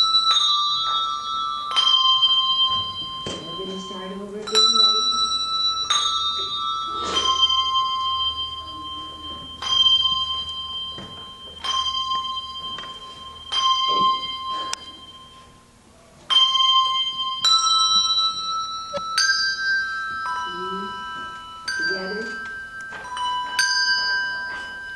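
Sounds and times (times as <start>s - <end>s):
handbells ringing a slow melody: 0.0s - 24.9s.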